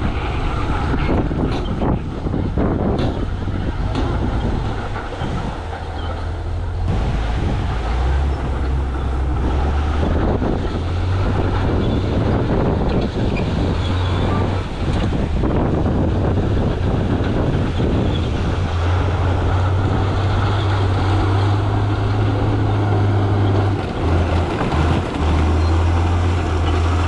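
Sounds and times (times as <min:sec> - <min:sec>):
deep diesel engine drone: 0:00.0 - 0:27.0.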